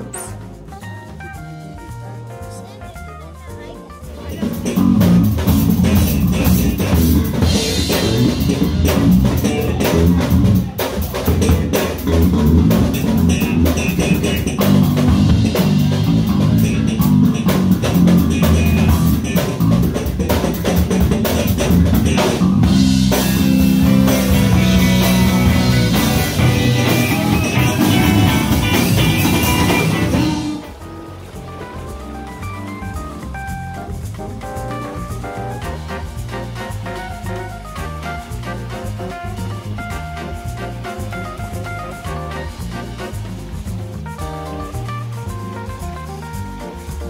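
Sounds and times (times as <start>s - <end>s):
drum kit beat: 0.0s - 47.0s
electric bass: 0.0s - 47.0s
live band playing: 0.0s - 47.0s.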